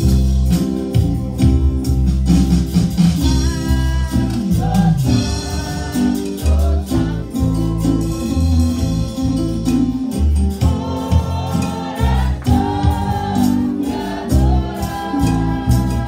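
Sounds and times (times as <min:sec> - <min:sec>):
amplified band with guitar: 0:00.0 - 0:16.0
stepping bass line: 0:00.0 - 0:16.0.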